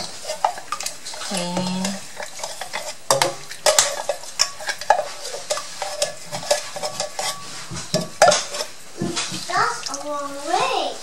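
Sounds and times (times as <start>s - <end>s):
spatula scraping metal tin: 0.0s - 9.6s.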